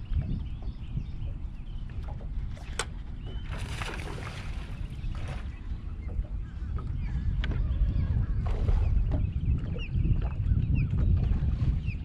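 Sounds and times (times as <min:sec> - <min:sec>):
water lapping against boat hull: 0:00.0 - 0:12.0
wind rumbling on microphone: 0:00.0 - 0:12.0.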